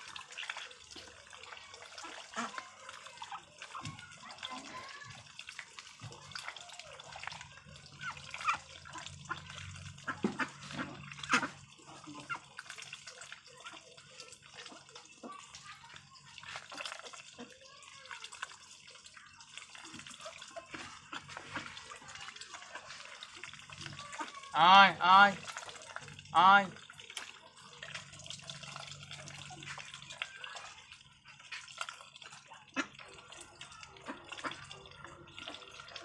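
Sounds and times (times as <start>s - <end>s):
ducks dabbling and pecking: 0.0s - 36.0s.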